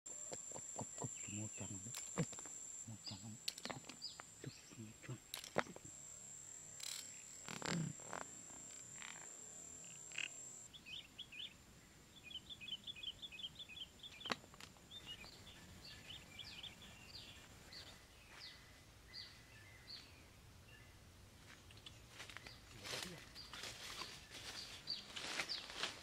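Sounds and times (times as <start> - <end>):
bird chirping: 0.1 - 21.0.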